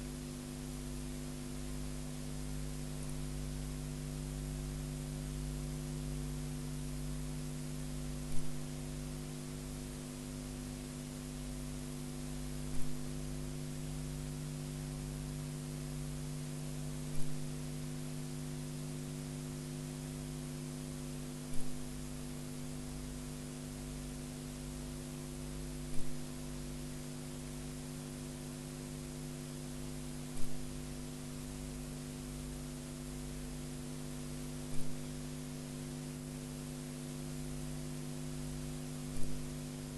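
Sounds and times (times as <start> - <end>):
electrical mains hum with hiss: 0.0 - 39.9.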